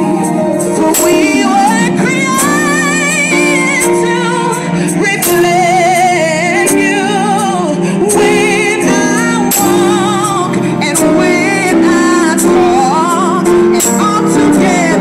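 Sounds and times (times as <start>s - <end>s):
held accompanying chords: 0.0s - 15.0s
woman singing gospel: 0.0s - 15.0s.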